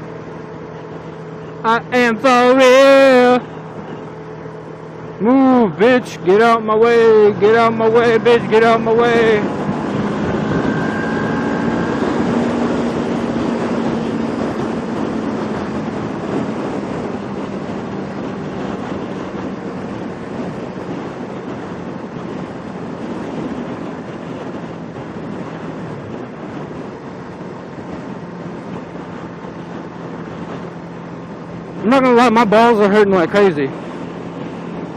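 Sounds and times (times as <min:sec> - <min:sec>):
motorcycle engine running: 0:00.0 - 0:34.9
wind and road noise: 0:00.0 - 0:34.9.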